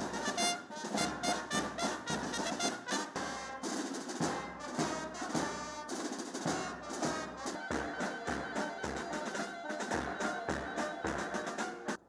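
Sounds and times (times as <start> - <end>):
marching band playing: 0.0 - 12.0
snare drums beating: 0.0 - 12.0
trumpets and trombones: 0.0 - 12.0.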